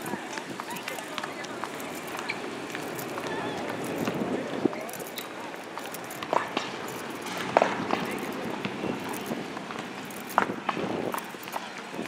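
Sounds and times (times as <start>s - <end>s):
background murmur: 0.0s - 12.0s.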